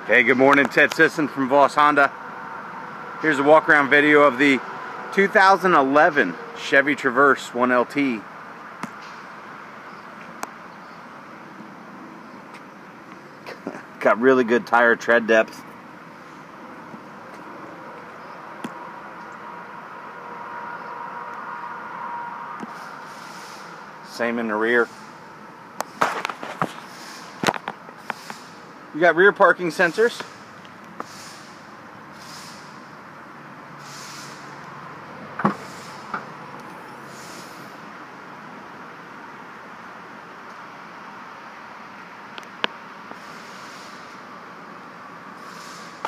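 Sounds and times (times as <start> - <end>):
background hum and hiss: 0.0 - 46.0.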